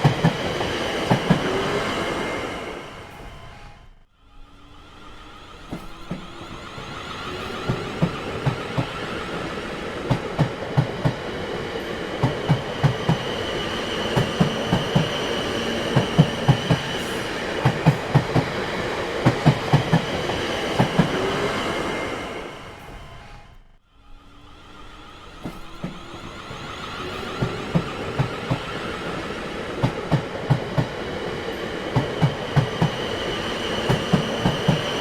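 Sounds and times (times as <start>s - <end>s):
train wheels clacking over rails: 0.0s - 3.8s, 5.4s - 23.6s, 25.2s - 35.0s
train rumble: 0.0s - 35.0s.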